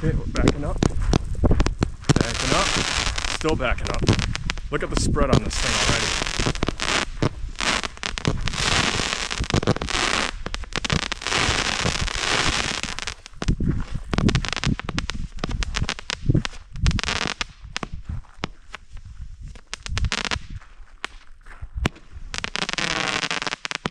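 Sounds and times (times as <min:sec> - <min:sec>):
fireworks crackling and popping: 0:00.0 - 0:23.9.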